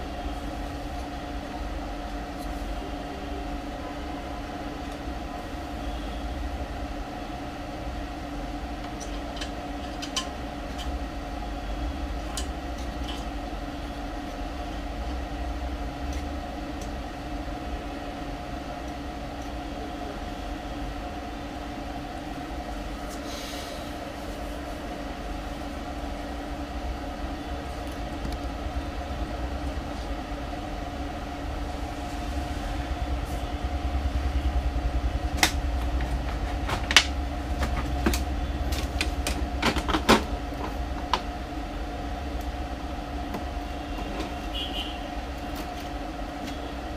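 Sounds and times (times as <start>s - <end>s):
steady mechanical hum: 0.0s - 46.9s.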